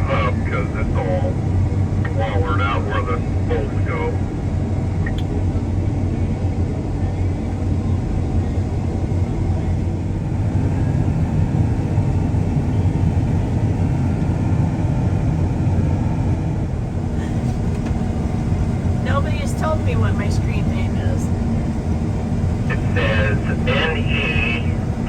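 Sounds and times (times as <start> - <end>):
heavy vehicle engine rumbling: 0.0 - 25.0.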